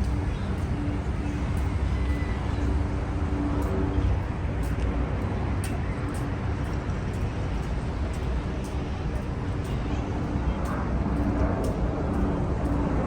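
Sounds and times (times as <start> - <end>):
city traffic rumble: 0.0 - 13.0
vehicle engine hum: 0.0 - 13.0.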